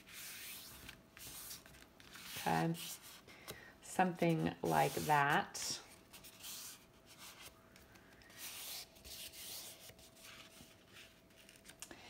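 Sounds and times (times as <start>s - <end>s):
paper rustling and rubbing: 0.0s - 3.2s, 4.3s - 11.8s.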